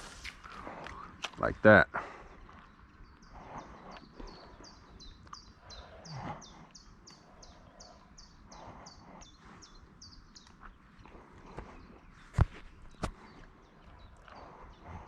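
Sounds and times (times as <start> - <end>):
small bird high calls: 2.6 - 15.0.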